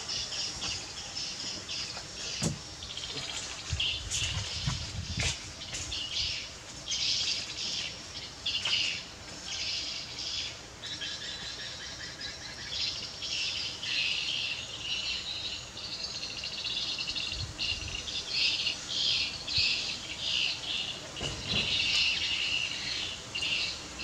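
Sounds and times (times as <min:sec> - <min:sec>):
birds and insects chirping: 0:00.0 - 0:24.0.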